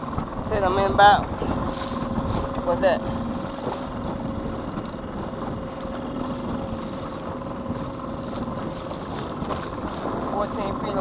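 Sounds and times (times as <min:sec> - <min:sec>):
small outboard motor running: 0:00.0 - 0:11.0
water rushing along hull: 0:00.0 - 0:11.0.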